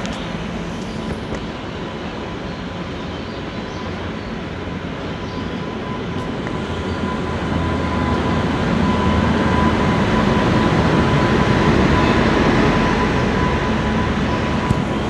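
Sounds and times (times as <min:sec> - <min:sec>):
train rumbling and rattling past: 0:00.0 - 0:15.0.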